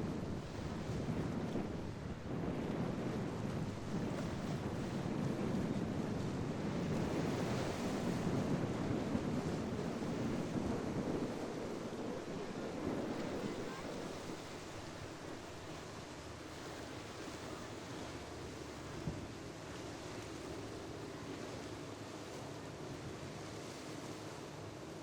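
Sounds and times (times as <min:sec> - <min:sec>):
wind buffeting microphone: 0:00.0 - 0:18.1, 0:18.7 - 0:21.0
waves washing and breaking: 0:00.0 - 0:25.0.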